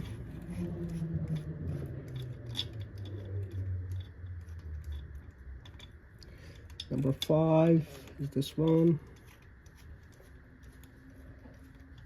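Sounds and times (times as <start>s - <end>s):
low steady hum: 0.0s - 12.0s
metallic clicks and scrapes: 0.0s - 12.0s.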